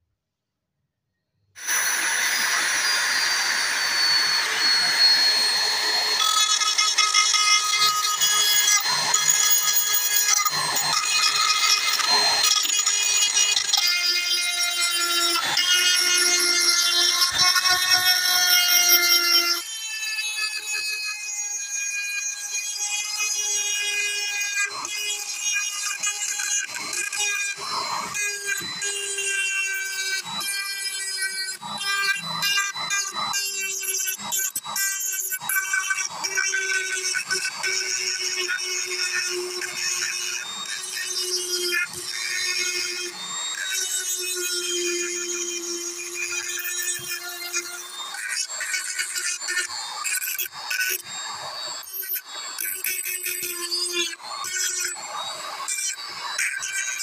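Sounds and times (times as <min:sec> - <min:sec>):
rotary tool grinding metal: 0:01.6 - 0:57.0.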